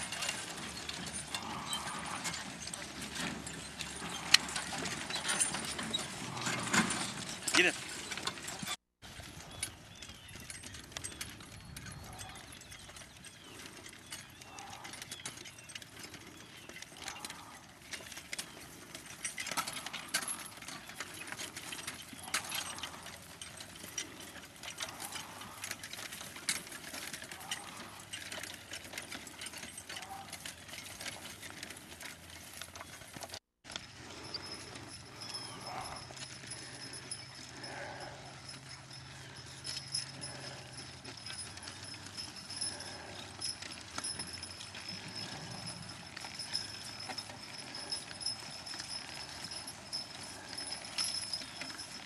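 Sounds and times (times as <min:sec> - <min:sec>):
harness clicks and clinks: 0:00.0 - 0:52.0
hooves clopping: 0:00.0 - 0:52.0.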